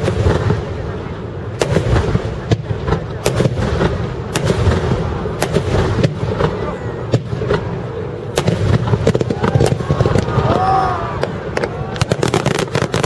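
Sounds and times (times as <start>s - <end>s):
sharp firework cracks: 0.0s - 0.9s, 1.5s - 13.0s
firework shells booming: 0.0s - 13.0s.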